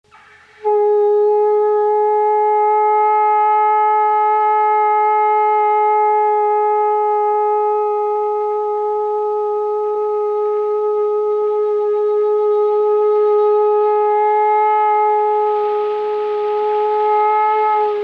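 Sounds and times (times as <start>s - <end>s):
conch shell blown: 0.0s - 18.0s.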